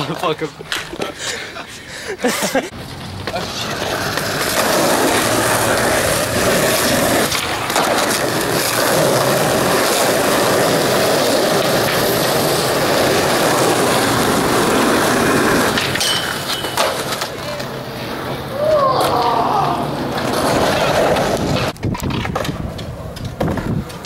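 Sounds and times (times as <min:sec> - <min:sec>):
skateboard wheels on rough asphalt: 0:00.0 - 0:24.0.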